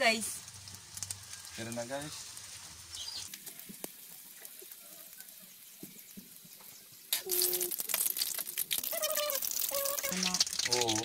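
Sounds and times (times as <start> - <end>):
deep-frying sizzle in oil: 0.0 - 11.0
faint crackle: 0.0 - 11.0.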